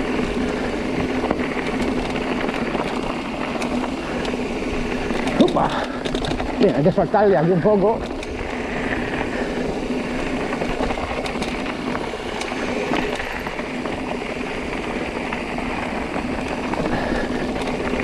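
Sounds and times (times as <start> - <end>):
bike knocks and rattles: 0.0 - 18.0
bike tyres rumbling on rocks: 0.0 - 18.0.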